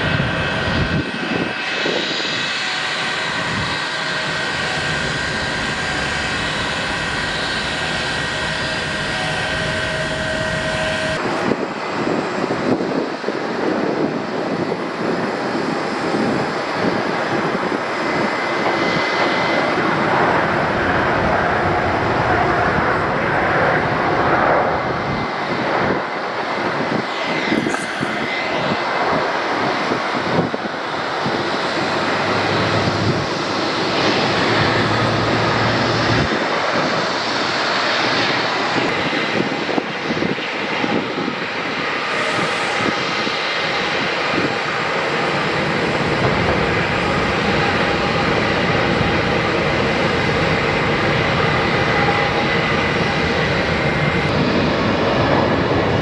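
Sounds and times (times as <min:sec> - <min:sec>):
airliner engines running: 0:00.0 - 0:56.0
faint high whine: 0:00.0 - 0:56.0.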